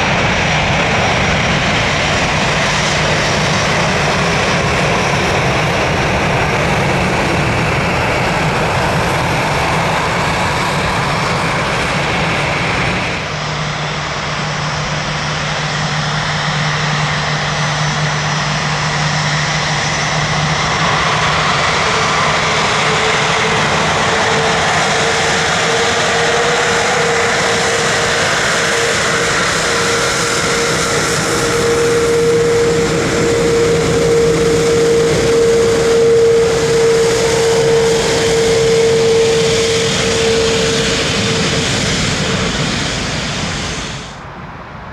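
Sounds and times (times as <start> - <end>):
jet engines roaring: 0.0 - 44.9
steady engine whine: 0.0 - 44.9.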